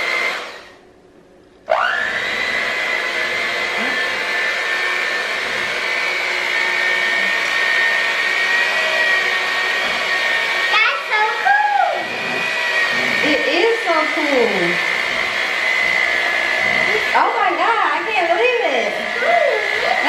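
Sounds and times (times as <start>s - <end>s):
electric hand mixer whining: 0.0s - 0.8s, 1.7s - 20.0s.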